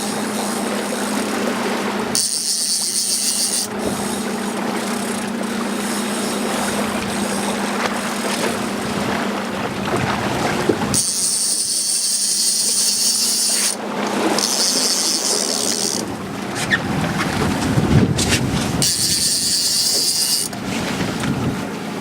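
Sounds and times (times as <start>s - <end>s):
boat engine running: 0.0s - 22.0s
water noise: 0.0s - 22.0s
wind: 0.0s - 22.0s.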